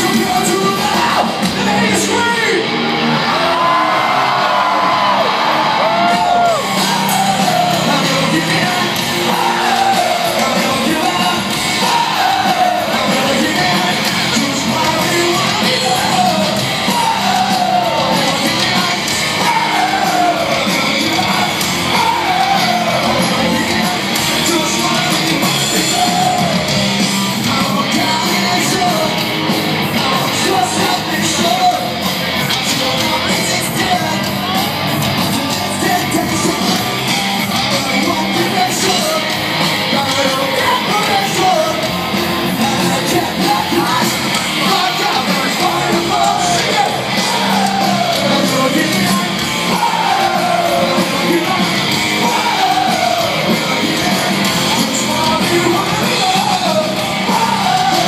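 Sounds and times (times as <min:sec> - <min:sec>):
crowd yelling: 0:00.0 - 0:58.0
live rock band playing: 0:00.0 - 0:58.0
vocalist singing: 0:00.0 - 0:58.0.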